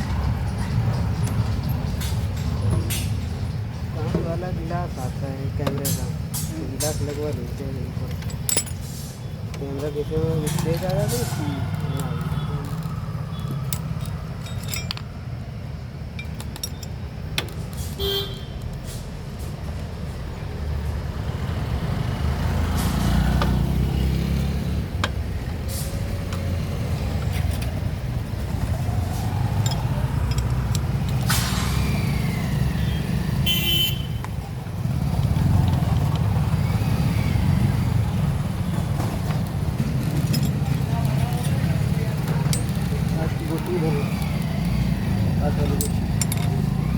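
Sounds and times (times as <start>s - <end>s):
vehicle engines rumbling: 0.0s - 46.9s.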